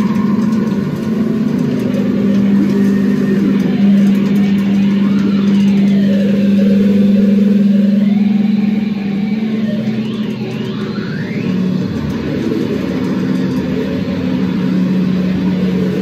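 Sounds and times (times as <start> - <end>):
electric guitar drone: 0.0 - 16.0
warbling guitar tones: 0.0 - 16.0.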